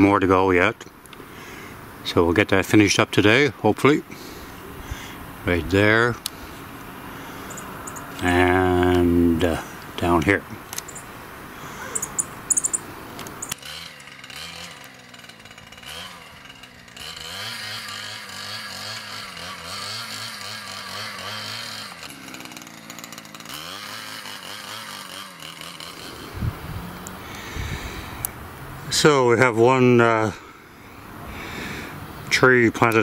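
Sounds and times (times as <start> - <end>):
rototiller engine running: 4.2 - 33.0.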